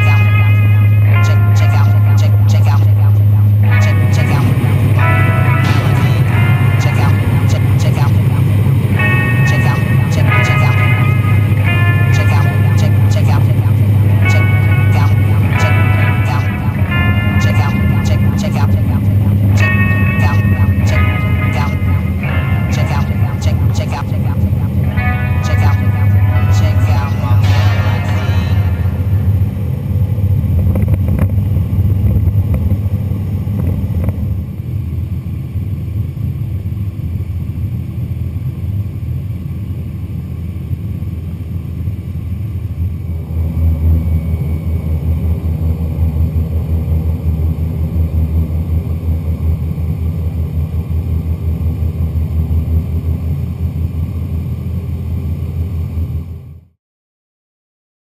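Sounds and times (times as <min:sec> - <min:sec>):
turboprop engine drone: 0:00.0 - 0:56.7.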